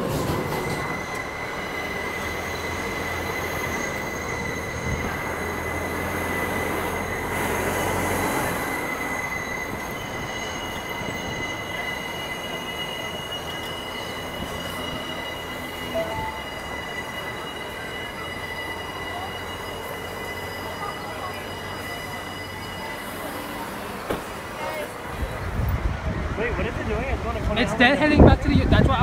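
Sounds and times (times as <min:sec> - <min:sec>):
train wheels squealing on rails: 0:00.0 - 0:26.4.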